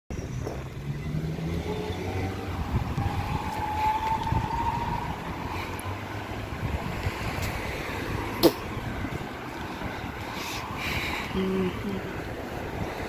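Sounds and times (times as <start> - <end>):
street traffic: 0.1 - 13.0
vehicle passing with motor whine: 0.2 - 11.4.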